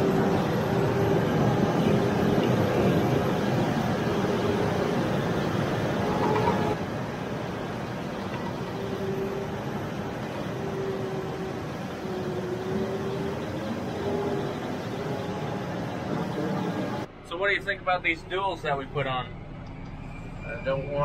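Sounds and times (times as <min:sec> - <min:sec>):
faint whine: 0:00.0 - 0:21.0.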